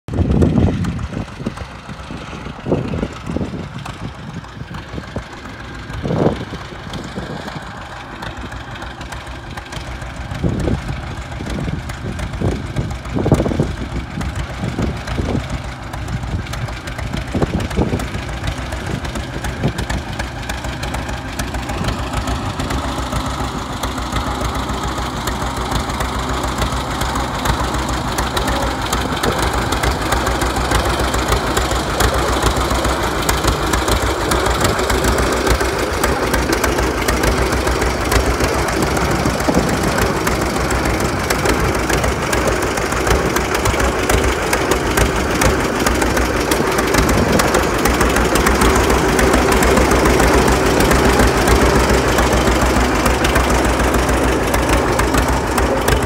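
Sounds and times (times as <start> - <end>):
tractor engine popping exhaust: 0.1 - 56.0.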